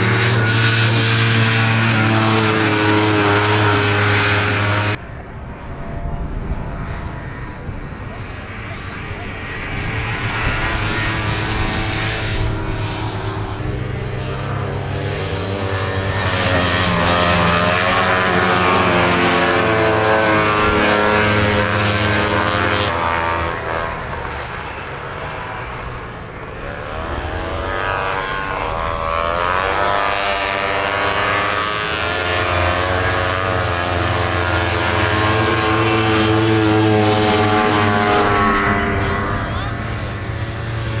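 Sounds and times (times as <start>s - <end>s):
racing snowmobile engines: 0.0s - 41.0s.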